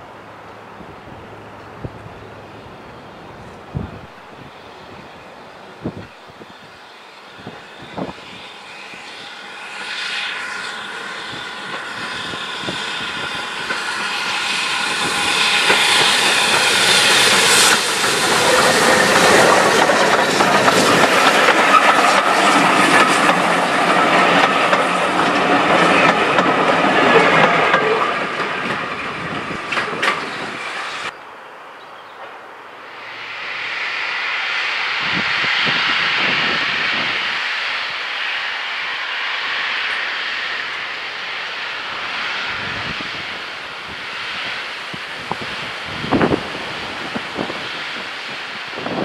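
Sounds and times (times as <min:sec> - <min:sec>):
steam train passing: 0:00.0 - 0:31.2, 0:32.1 - 0:49.0.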